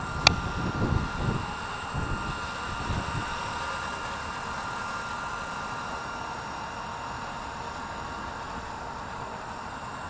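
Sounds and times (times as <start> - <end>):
rc helicopter motor whine: 0.0 - 10.0.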